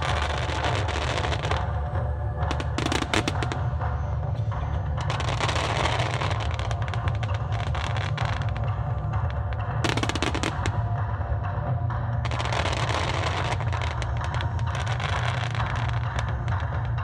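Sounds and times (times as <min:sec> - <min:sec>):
fireworks bursting and crackling: 0:00.0 - 0:17.0
music: 0:00.0 - 0:17.0.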